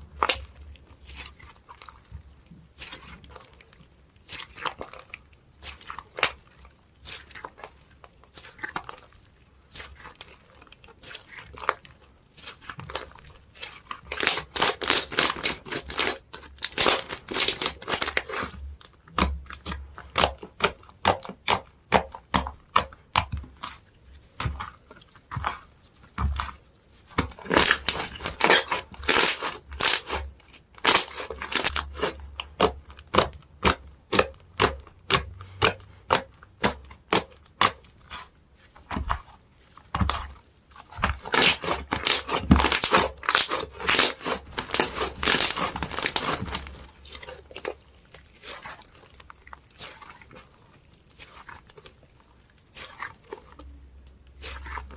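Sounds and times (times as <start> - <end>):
slime squished by hand: 0.0 - 54.9.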